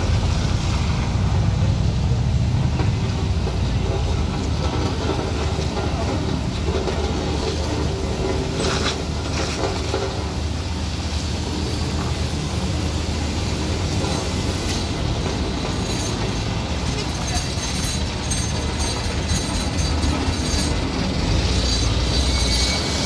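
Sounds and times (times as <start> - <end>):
truck engine rumble: 0.0 - 23.0.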